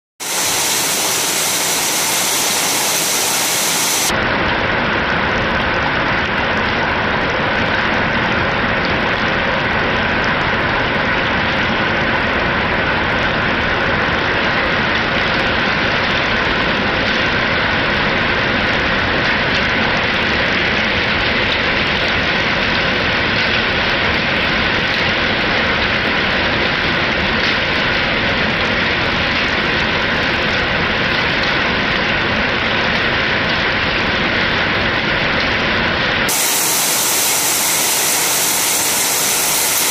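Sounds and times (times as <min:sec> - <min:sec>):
heavy rain falling: 0:00.2 - 0:39.9.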